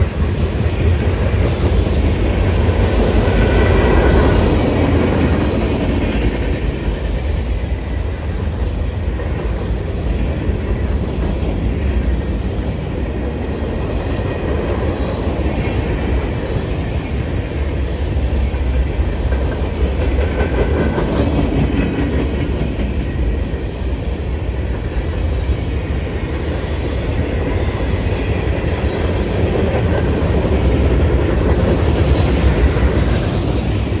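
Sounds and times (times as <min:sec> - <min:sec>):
train wheels clattering over rail joints: 0:00.0 - 0:34.0.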